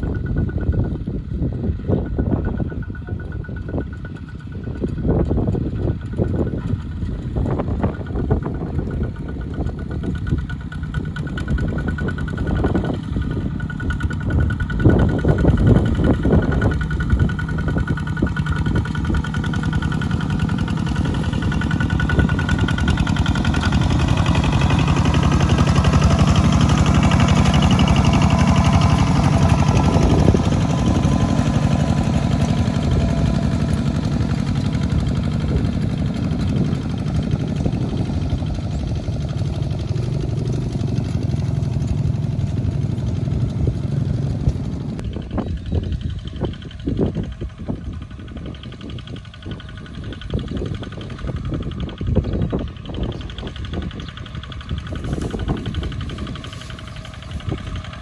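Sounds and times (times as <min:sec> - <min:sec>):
diesel tractor engine chugging: 0:00.0 - 0:58.0.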